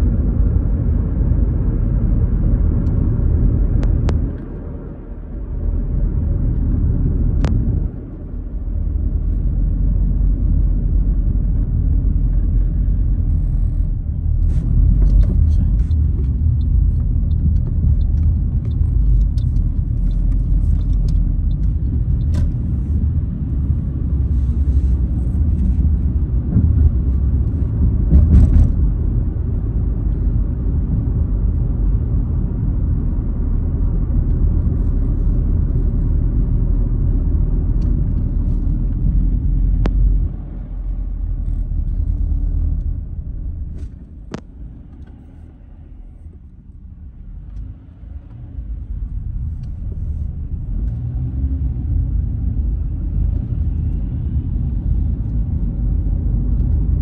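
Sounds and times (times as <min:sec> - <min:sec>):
car engine rumble: 0:00.0 - 0:57.0
tyre road noise: 0:00.0 - 0:57.0.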